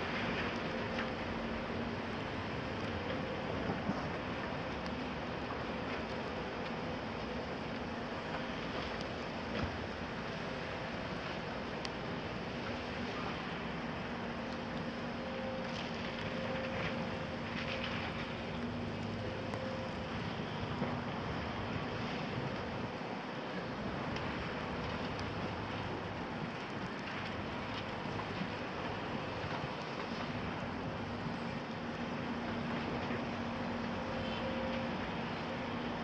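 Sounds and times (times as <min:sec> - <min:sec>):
construction site noise: 0:00.0 - 0:36.0
excavator diesel engine running: 0:00.0 - 0:36.0.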